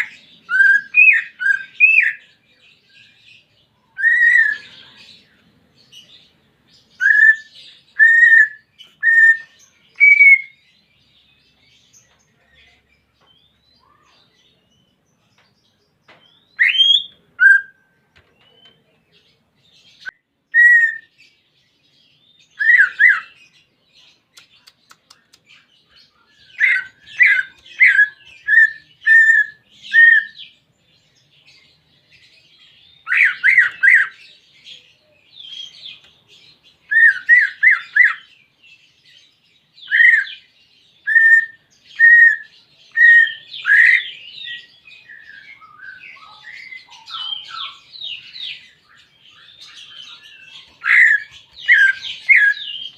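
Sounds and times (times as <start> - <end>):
bird singing whistled notes: 0.0 - 15.0, 15.7 - 18.9, 19.8 - 23.7, 24.4 - 52.9.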